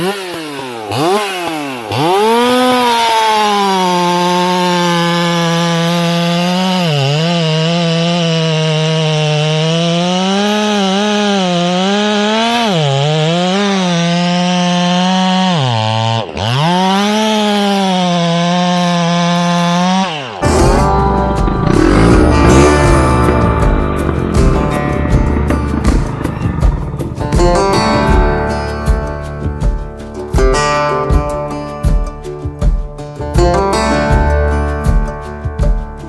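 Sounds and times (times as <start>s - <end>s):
chainsaw cutting wood: 0.0s - 36.0s.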